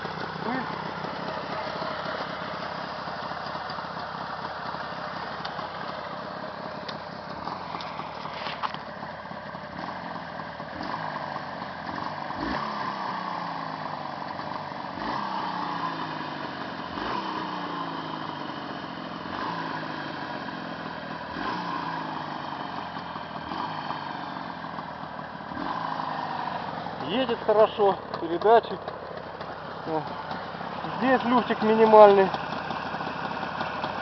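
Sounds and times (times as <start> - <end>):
two-stroke motorcycle engine revving: 0.0 - 34.0.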